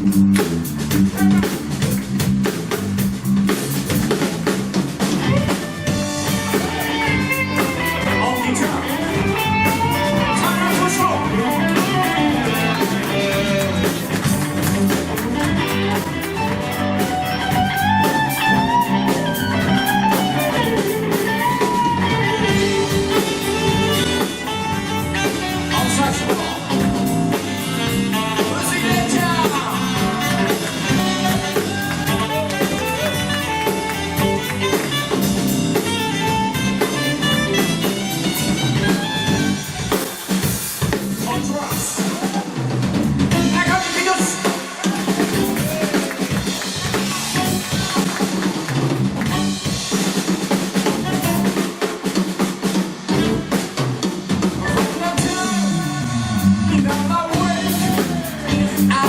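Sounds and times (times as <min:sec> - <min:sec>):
drum beat: 0:00.0 - 0:59.0
live band playing: 0:00.0 - 0:59.0.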